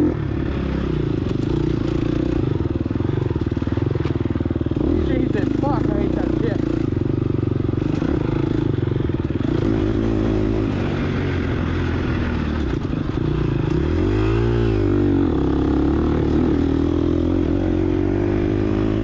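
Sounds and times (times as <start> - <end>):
motorcycle engine revving under load: 0.0 - 19.0.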